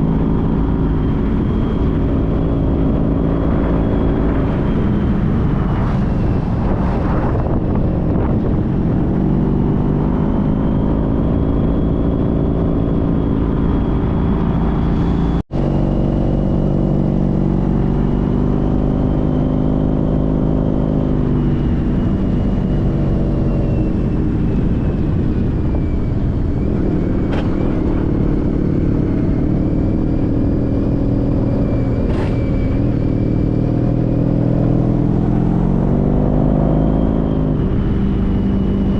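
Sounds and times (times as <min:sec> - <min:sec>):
motorcycle engine running: 0:07.5 - 0:38.9.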